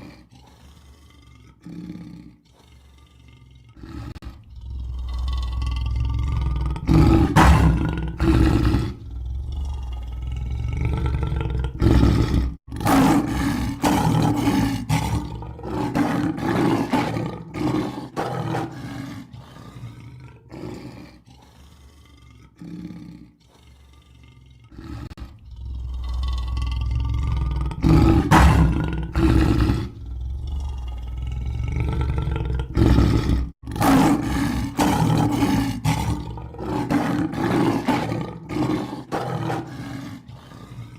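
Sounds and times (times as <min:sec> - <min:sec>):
lion roaring and grunting: 0:00.0 - 0:40.9.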